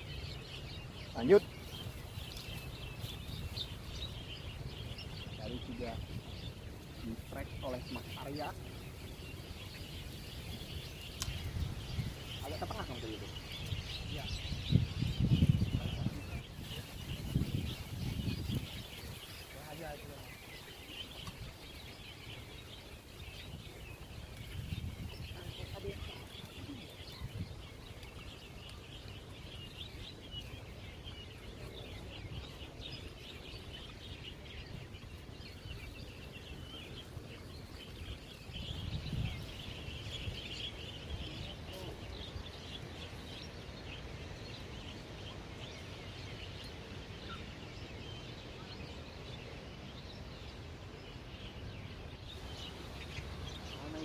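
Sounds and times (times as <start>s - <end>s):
small birds chirping: 0.0s - 54.0s
wind rumble on microphone: 0.0s - 54.0s.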